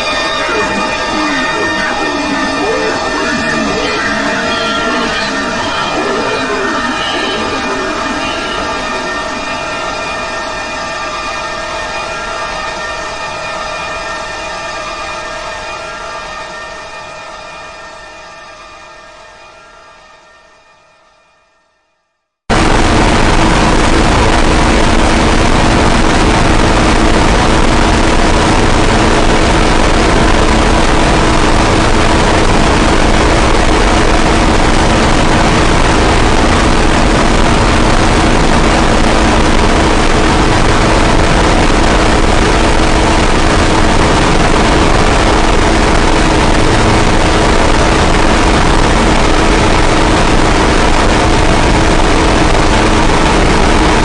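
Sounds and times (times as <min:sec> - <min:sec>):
harsh distorted noise: 0:00.0 - 0:16.4, 0:22.5 - 0:54.0
steady drone tones: 0:00.0 - 0:17.8, 0:22.5 - 0:54.0.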